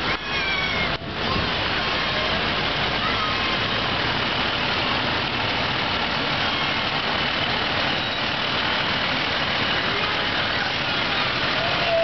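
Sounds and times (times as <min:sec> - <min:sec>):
fire truck engine running: 0:00.0 - 0:12.0.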